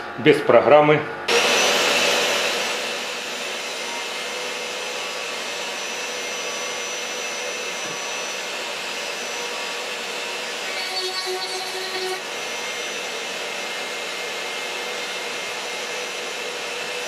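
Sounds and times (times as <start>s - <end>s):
dust extractor running: 1.3s - 17.0s.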